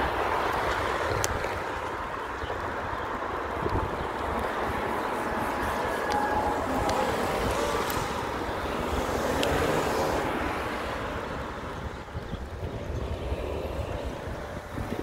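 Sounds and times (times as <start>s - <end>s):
bicycle tyres rolling on asphalt: 0.0s - 15.0s
street traffic: 0.0s - 15.0s
wind buffeting microphone: 0.0s - 15.0s.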